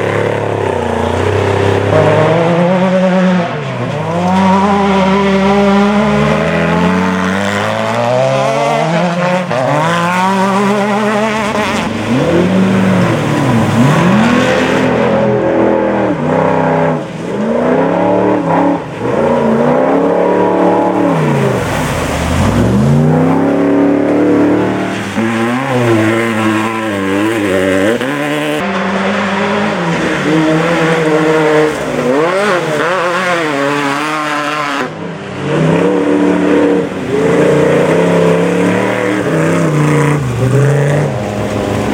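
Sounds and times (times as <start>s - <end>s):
race vehicle engines revving: 0.0s - 41.9s.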